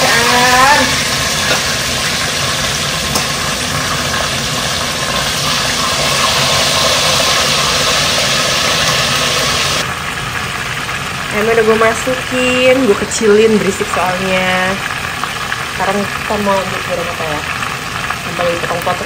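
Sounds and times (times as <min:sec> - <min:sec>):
deep-frying sizzle: 0:00.0 - 0:19.0
range hood fan hum: 0:00.0 - 0:19.0.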